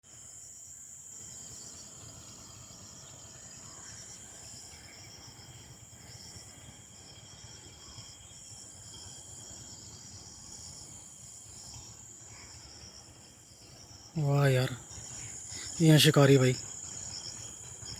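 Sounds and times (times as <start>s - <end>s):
fast pulsing insect trill: 0.1s - 17.9s
high-pitched insect chorus: 0.1s - 17.9s.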